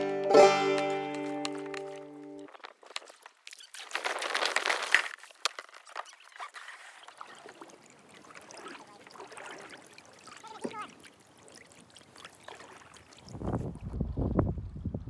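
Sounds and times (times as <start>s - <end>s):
water splashing: 0.0s - 14.1s
water trickling: 1.3s - 14.2s.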